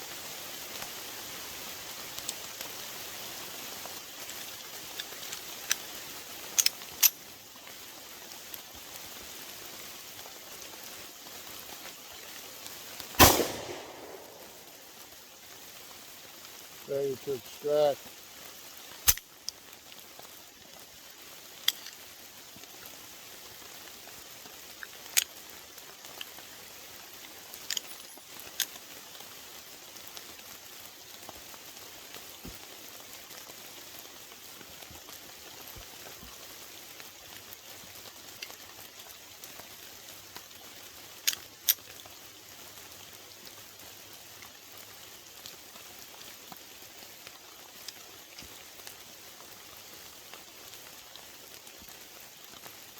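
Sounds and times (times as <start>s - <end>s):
rain patter: 0.0s - 52.9s.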